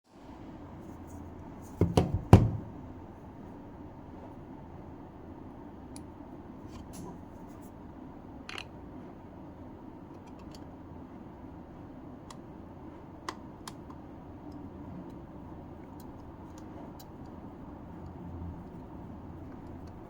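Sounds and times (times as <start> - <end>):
low background rumble: 2.2 - 20.0.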